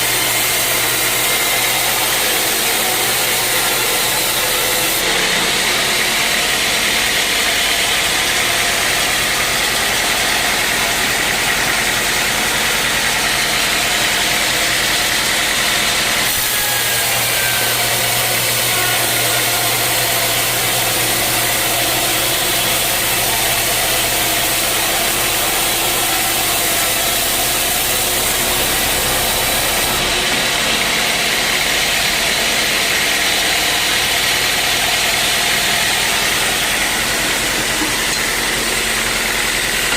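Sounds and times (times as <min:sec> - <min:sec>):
motor humming: 0:00.0 - 0:39.9
sawmill machinery running: 0:00.0 - 0:39.9.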